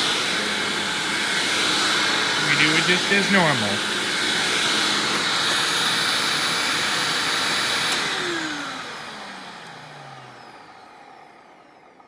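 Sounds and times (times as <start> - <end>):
motor winding down whine: 0.0 - 12.0
vacuum cleaner running: 0.0 - 12.0.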